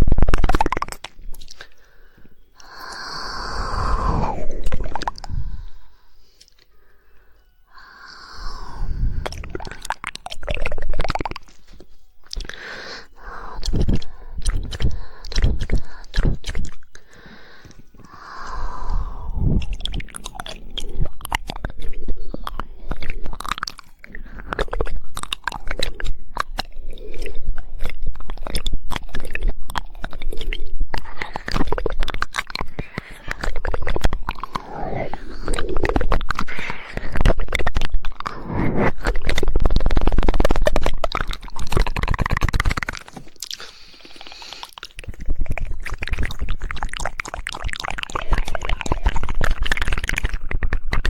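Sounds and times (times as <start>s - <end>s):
wet mouth noises: 0.0s - 6.8s, 7.7s - 51.0s
tongue clicks: 0.0s - 51.0s.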